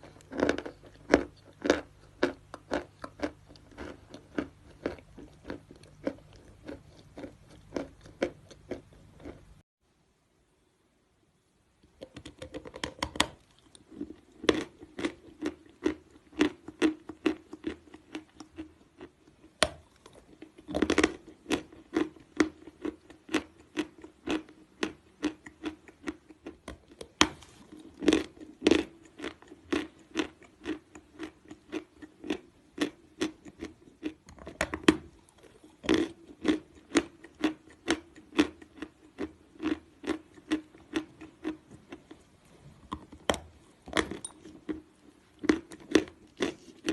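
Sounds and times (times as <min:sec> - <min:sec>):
chewing dry crunches: 0:00.0 - 0:09.6, 0:12.0 - 0:46.9.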